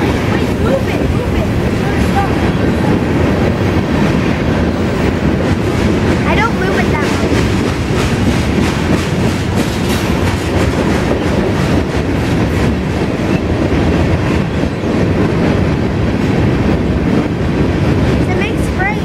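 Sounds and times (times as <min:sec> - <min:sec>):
freight cars rumbling and rattling: 0:00.0 - 0:19.0.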